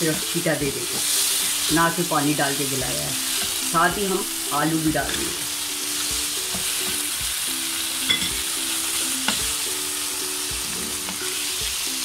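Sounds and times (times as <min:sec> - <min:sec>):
meat and potatoes sizzling: 0:00.0 - 0:12.0.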